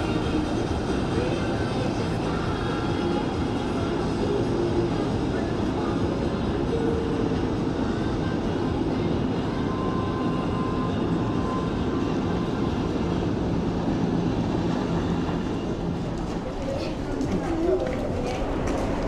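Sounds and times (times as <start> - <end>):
city traffic rumble: 0.0 - 19.0
faint steady whines: 0.0 - 19.0.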